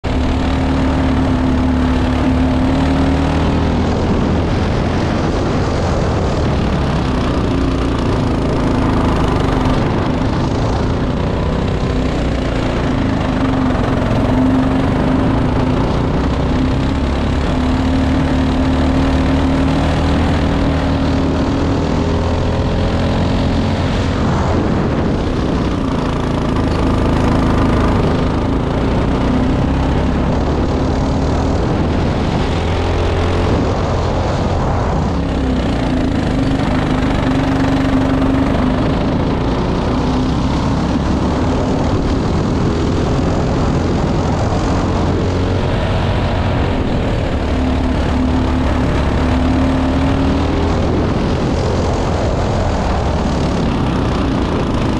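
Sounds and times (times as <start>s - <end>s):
kart engine revving: 0.0s - 54.9s.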